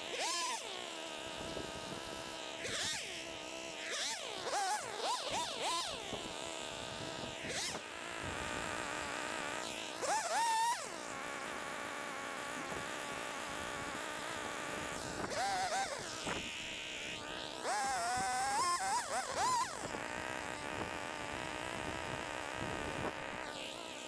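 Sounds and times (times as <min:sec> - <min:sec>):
small two-stroke engine revving: 0:00.0 - 0:24.0.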